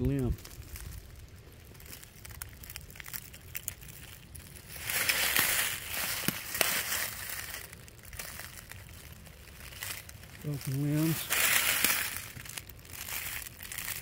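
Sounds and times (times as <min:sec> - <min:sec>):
dry leaves and twigs crunching: 0:00.0 - 0:14.0
twigs snapping: 0:00.0 - 0:14.0.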